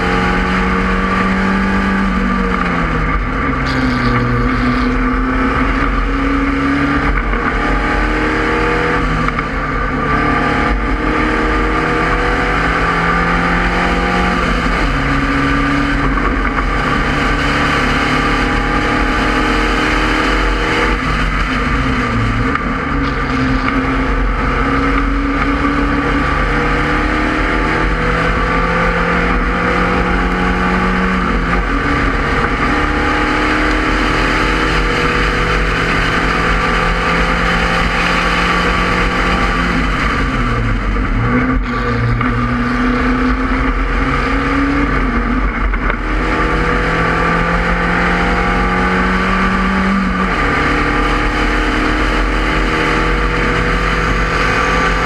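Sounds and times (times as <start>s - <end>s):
race car engine under power: 0.0s - 55.0s
wind and road noise: 0.0s - 55.0s.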